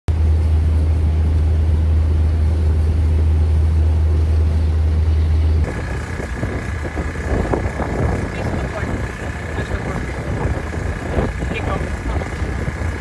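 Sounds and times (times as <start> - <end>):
loud low engine-like rumble: 0.1 - 13.0.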